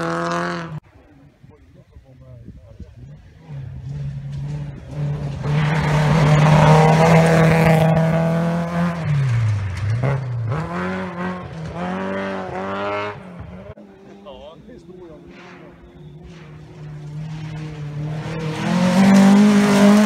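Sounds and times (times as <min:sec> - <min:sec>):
rally car engine at high revs: 0:00.0 - 0:00.8, 0:03.0 - 0:13.7, 0:15.2 - 0:20.0.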